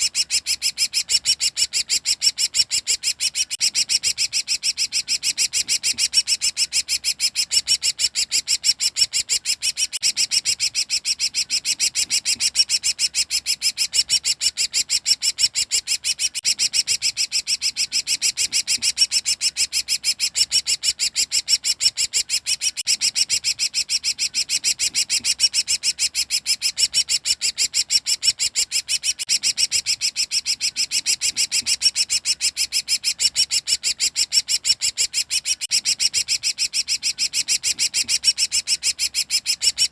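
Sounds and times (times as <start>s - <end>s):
songbird rapid chatter: 0.0s - 39.9s.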